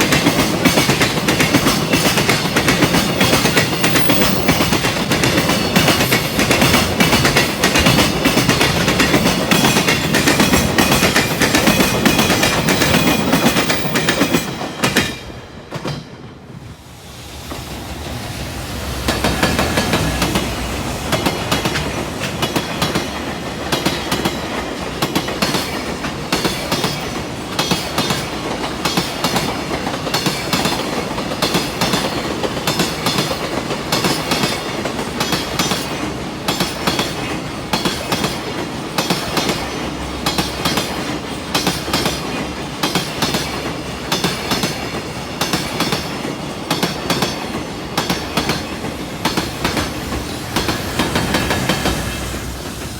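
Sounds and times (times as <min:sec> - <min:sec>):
train wheels clattering over rails: 0:00.0 - 0:52.9.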